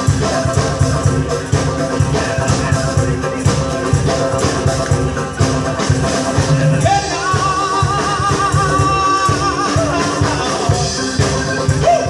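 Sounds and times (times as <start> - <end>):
live band playing amplified music: 0.0 - 12.0
wavering held melody line: 0.0 - 12.0.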